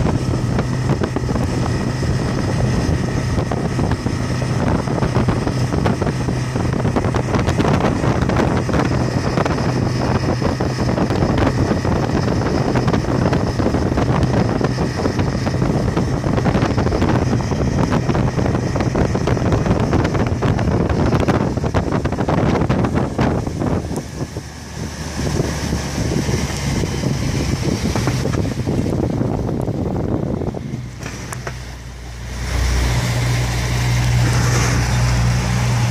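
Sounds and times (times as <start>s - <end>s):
outboard motor running: 0.0s - 35.9s
water rushing: 0.0s - 35.9s
wind buffeting microphone: 0.0s - 35.9s.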